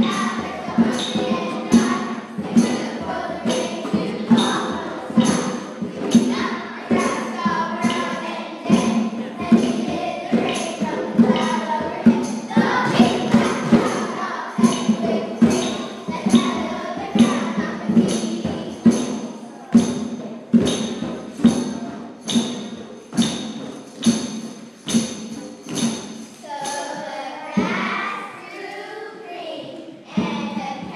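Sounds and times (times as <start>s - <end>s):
jingles: 0.0s - 27.2s
steady drum beat: 0.0s - 28.3s, 30.2s - 30.9s
children singing: 0.0s - 30.9s.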